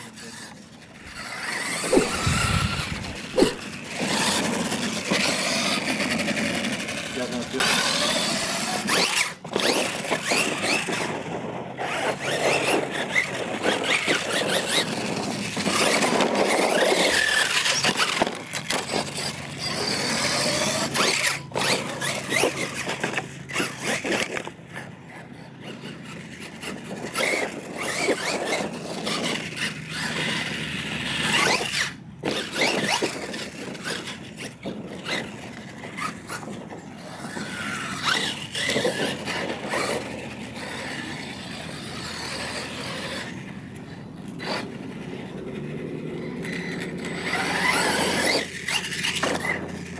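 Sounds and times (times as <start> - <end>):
electric motor whining: 0.0 - 49.9
tyres scrabbling on dirt: 0.0 - 49.9.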